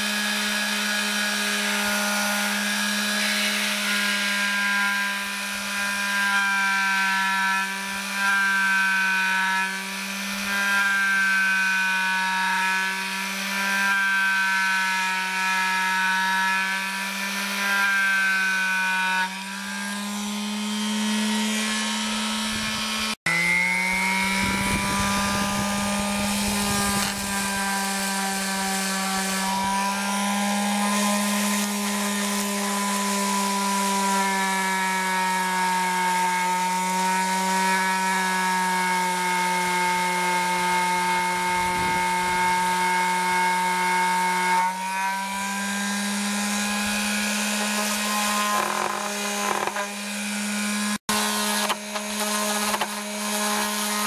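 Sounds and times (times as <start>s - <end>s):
electric sander humming: 0.0s - 54.0s.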